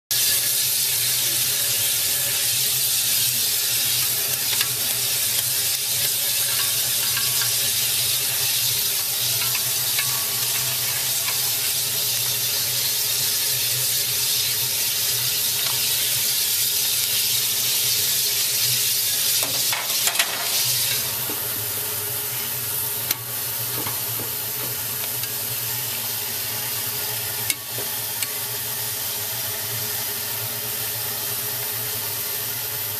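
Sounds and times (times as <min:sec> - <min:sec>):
steady hiss from firebox: 0:00.1 - 0:32.9.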